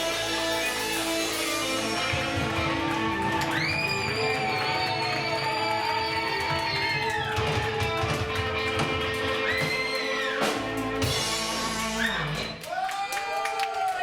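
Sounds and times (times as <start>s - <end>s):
guitar bending long notes: 0.0s - 12.6s
drums: 0.0s - 14.0s.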